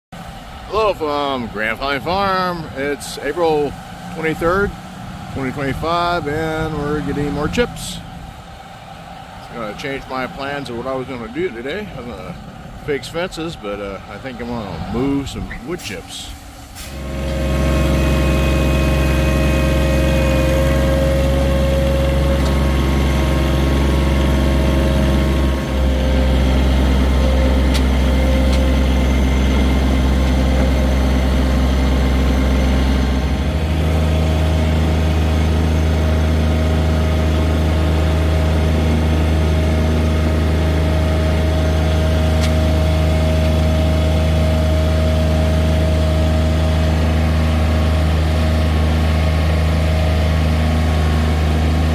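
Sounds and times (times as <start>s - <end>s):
tractor diesel engine running: 0.1s - 51.9s.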